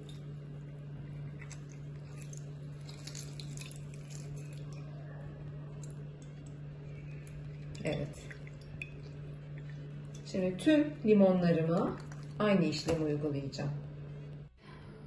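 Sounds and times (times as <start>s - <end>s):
juice dripping into bowl: 0.0s - 12.9s
steady low hum: 0.0s - 15.0s.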